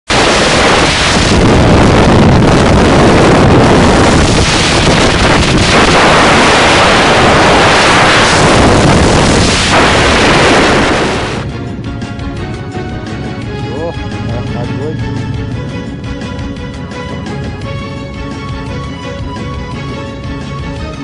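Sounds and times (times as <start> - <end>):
wind rush on microphone: 0.1 - 20.5.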